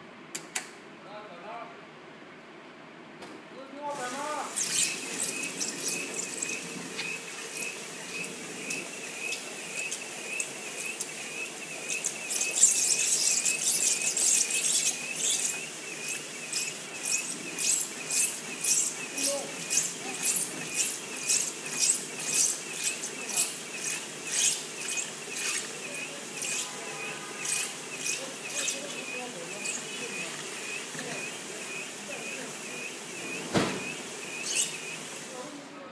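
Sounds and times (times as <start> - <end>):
machine rollers squeaking: 4.0 - 35.6.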